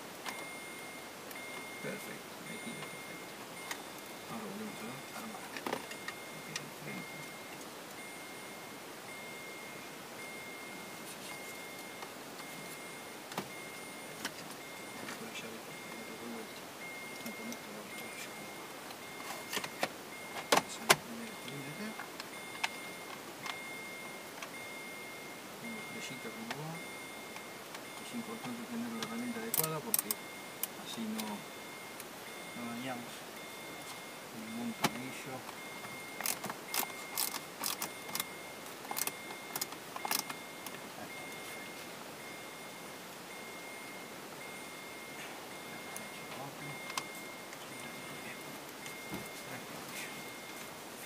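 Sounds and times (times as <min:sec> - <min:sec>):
faint high beep: 0:00.3 - 0:50.8.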